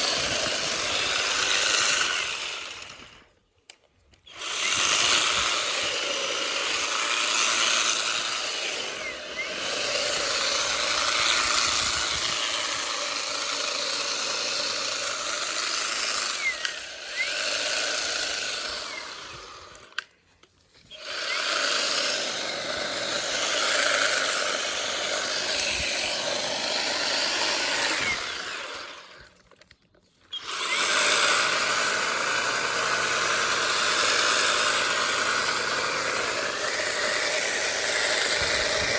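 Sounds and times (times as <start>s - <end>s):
hedge trimmer cutting stalks: 0.0s - 38.9s.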